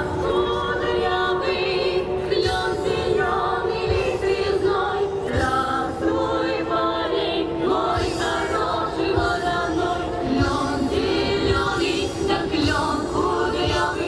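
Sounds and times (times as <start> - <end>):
group singing through loudspeakers: 0.0 - 14.0.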